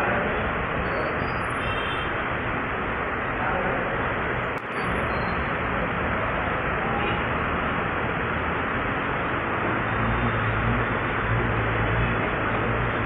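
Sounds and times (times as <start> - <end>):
tyres on wet road: 0.0 - 13.0.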